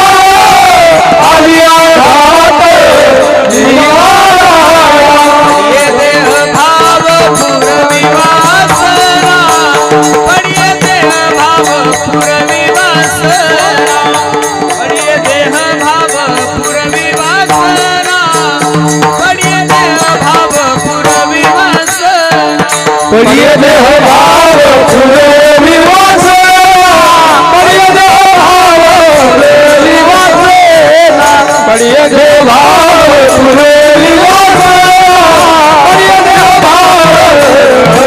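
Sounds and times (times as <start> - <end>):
fast percussion beat: 0.0 - 38.0
man singing: 0.0 - 38.0.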